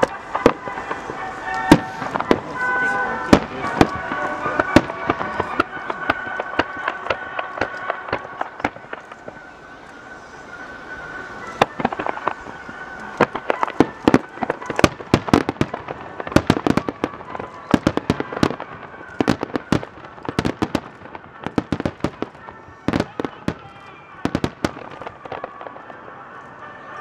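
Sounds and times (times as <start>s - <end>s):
fireworks popping and crackling: 0.0s - 27.0s.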